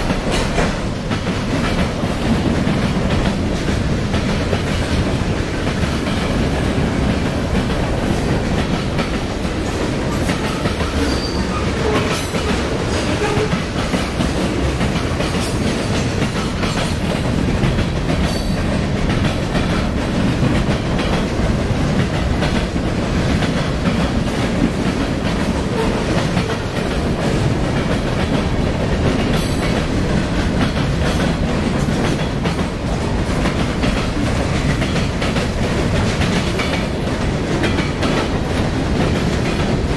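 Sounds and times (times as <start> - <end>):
freight train rumble: 0.0 - 39.9
wheels clicking over rail joints: 0.0 - 39.9.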